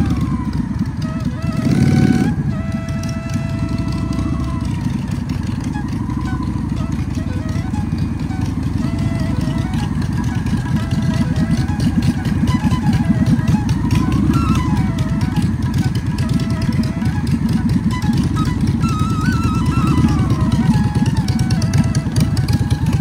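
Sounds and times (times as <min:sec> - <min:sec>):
motorcycle engine running: 0:00.0 - 0:23.0
music with wandering melody: 0:00.0 - 0:23.0.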